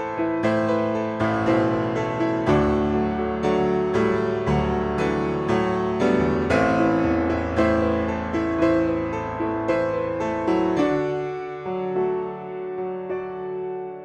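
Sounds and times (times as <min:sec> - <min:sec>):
slow solo piano piece: 0:00.0 - 0:14.0.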